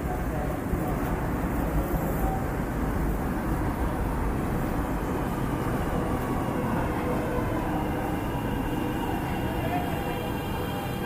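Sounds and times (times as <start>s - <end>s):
train rumbling into station: 0.0s - 11.0s.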